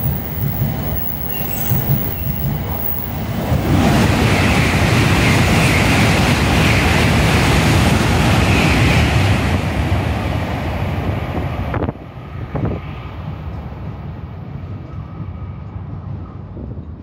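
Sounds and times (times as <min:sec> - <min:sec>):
high-speed train rushing past: 0:00.0 - 0:17.0.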